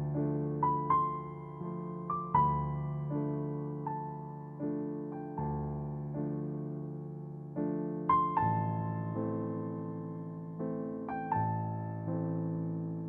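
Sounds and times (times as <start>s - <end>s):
slow calm piano music: 0.0s - 13.0s.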